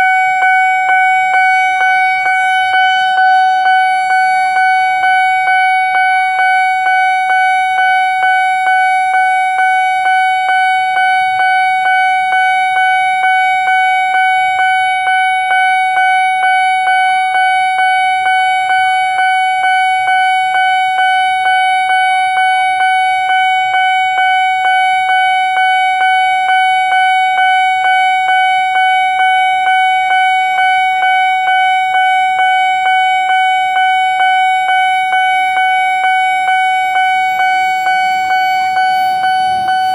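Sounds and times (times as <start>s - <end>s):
level crossing electronic alarm: 0.0s - 39.9s.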